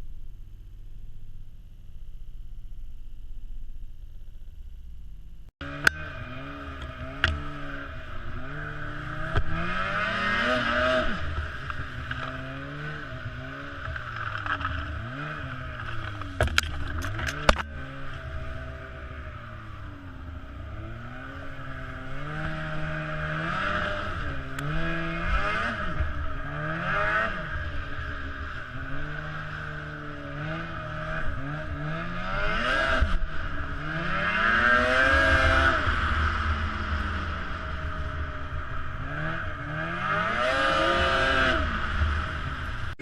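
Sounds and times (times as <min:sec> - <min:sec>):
off-road vehicle engine revving: 0:05.6 - 0:43.0.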